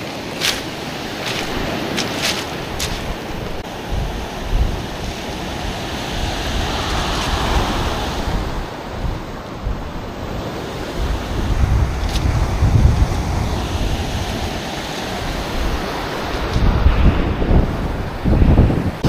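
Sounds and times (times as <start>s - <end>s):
surf breaking on beach: 0.0s - 19.0s
wind rumbling on microphone: 0.0s - 19.0s.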